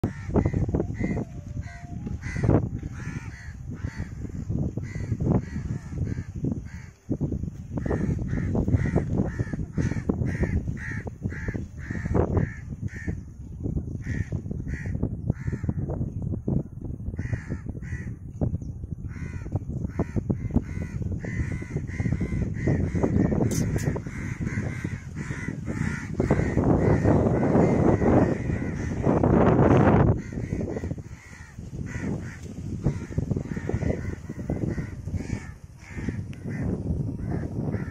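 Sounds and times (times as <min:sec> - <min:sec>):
crows cawing: 0:00.0 - 0:07.0, 0:07.8 - 0:13.2, 0:14.0 - 0:15.8, 0:17.2 - 0:18.2, 0:19.1 - 0:37.9.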